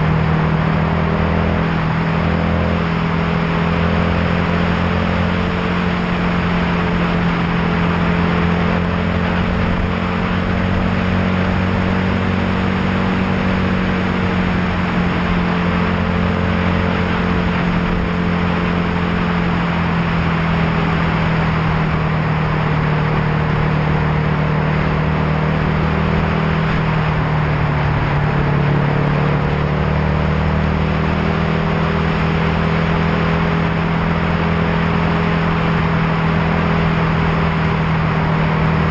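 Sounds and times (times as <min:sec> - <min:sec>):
tyre and road noise: 0:00.0 - 0:38.9
vehicle engine cruising: 0:00.0 - 0:38.9.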